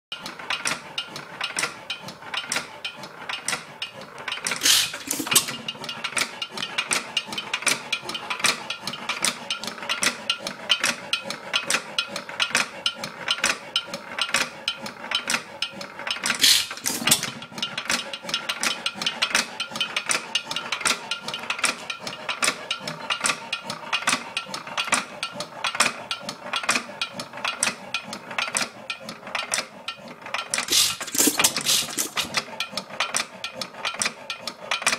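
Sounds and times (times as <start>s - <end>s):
hit-and-miss engine clicking: 0.1s - 34.9s.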